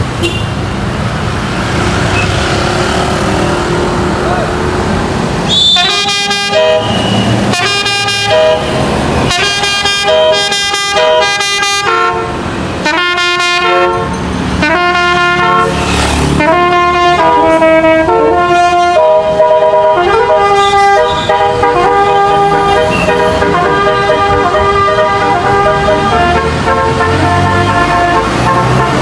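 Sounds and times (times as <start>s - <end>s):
bus horn playing a tune: 5.5s - 29.0s.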